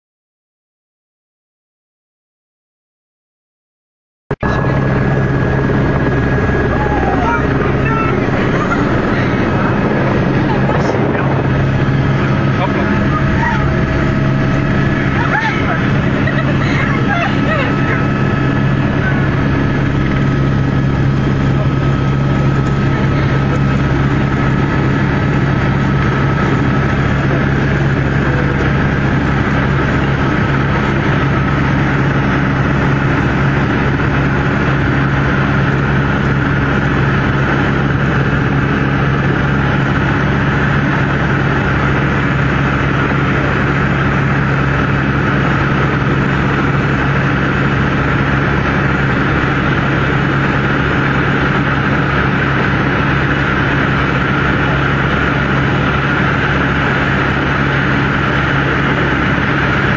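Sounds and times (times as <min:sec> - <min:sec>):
helicopter engine and rotor drone: 0:04.4 - 0:59.9.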